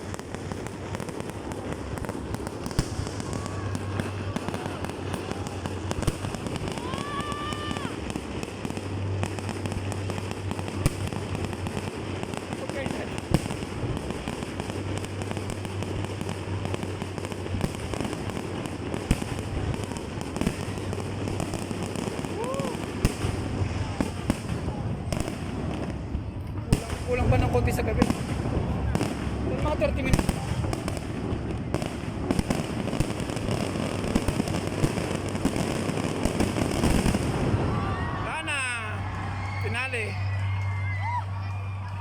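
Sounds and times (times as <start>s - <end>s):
fireworks bangs: 0.0s - 42.0s
fireworks crackling: 0.0s - 42.0s.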